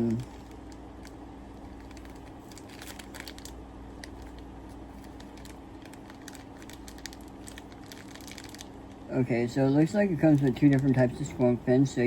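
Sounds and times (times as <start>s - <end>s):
plastic bag rustling: 0.0s - 8.8s, 10.1s - 11.6s
steady low hum: 0.0s - 12.0s.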